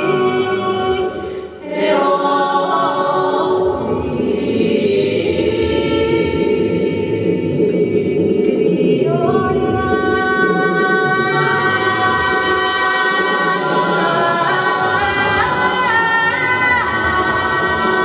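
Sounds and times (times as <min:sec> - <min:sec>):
choir-like sustained tones: 0:00.0 - 0:18.0.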